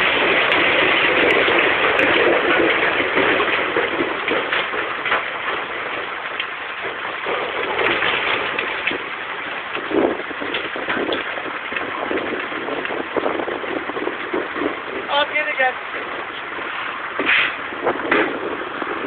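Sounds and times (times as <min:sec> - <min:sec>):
crushed stone rattling: 0:00.0 - 0:19.0.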